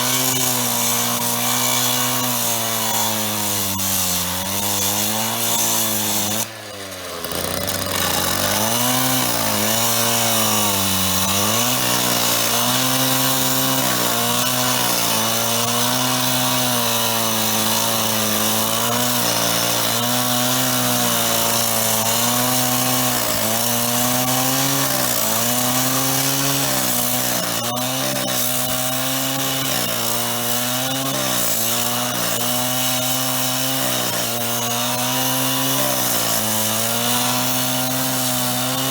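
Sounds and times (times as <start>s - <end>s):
power saw cutting steel: 0.0s - 38.9s.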